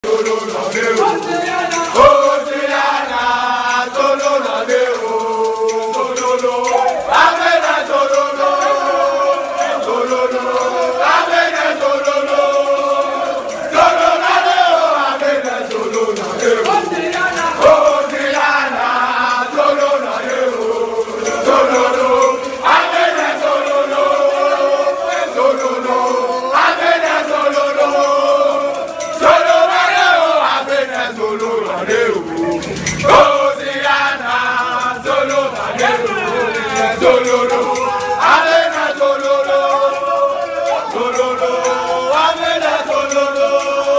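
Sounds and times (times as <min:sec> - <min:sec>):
men chanting in unison: 0:00.0 - 0:43.9.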